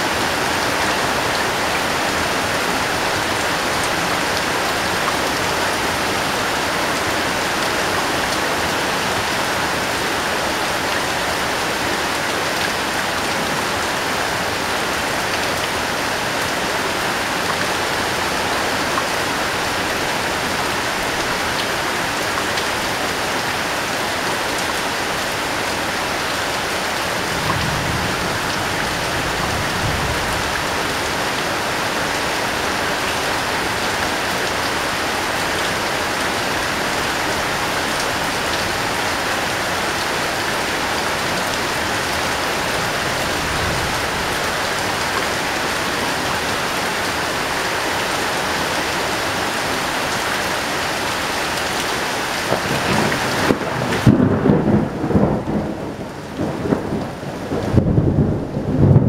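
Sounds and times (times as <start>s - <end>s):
heavy rain on metal roof: 0.0s - 59.0s.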